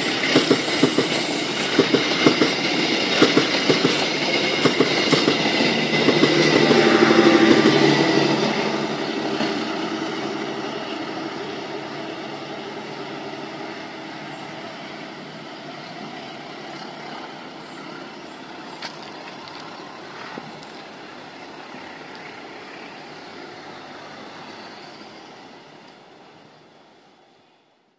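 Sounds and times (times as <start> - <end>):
train wheels rumbling on rails: 0.0 - 27.3.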